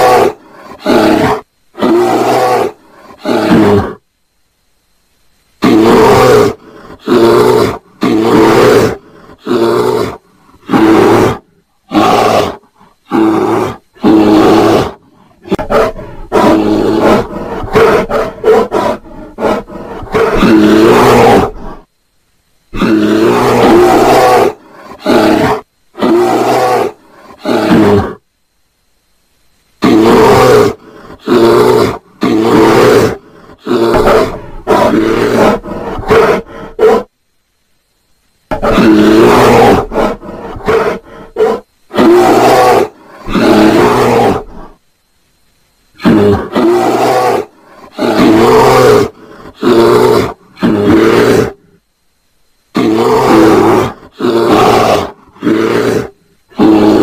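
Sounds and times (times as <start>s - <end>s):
bear growling and roaring: 0.0s - 4.0s, 5.6s - 21.9s, 22.7s - 28.2s, 29.8s - 37.1s, 38.5s - 44.8s, 46.0s - 51.8s, 52.7s - 57.0s.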